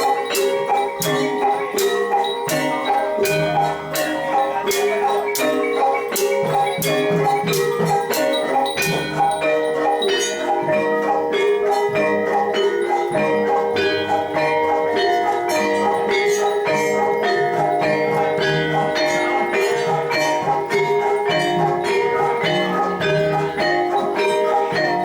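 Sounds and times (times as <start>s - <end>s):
gamelan ensemble playing: 0.0s - 25.0s.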